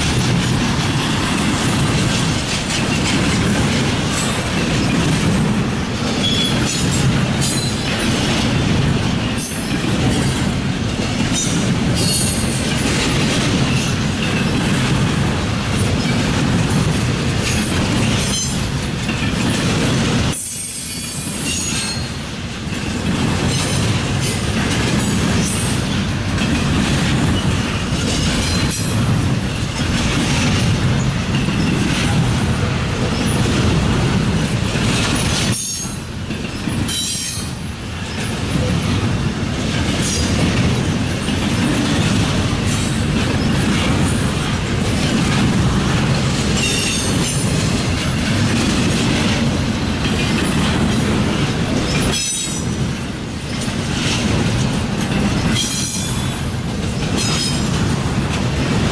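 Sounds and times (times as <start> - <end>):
freight train wheels on rails: 0.0 - 58.9.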